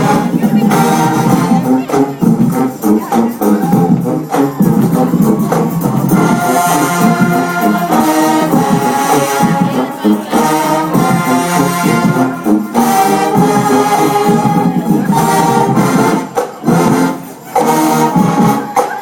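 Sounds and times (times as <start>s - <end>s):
brass band playing chords: 0.0s - 19.0s.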